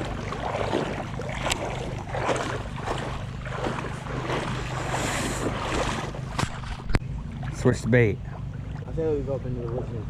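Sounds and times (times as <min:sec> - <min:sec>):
creek water running: 0:00.0 - 0:09.9.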